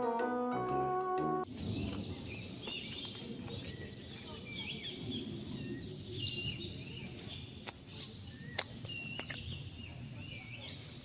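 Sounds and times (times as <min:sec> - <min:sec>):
birds chirping: 0:01.6 - 0:11.0.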